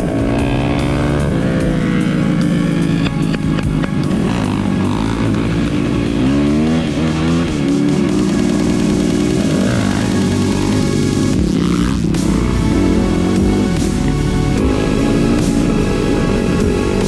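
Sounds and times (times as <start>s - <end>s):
background music: 0.0s - 17.0s
dirt bike engine running: 0.0s - 17.0s.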